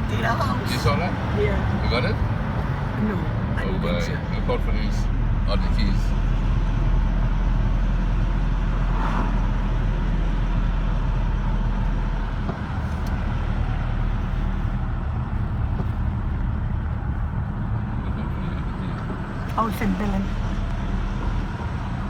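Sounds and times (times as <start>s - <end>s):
car engine rumble: 0.0s - 22.0s
tyres on the road: 0.0s - 22.0s.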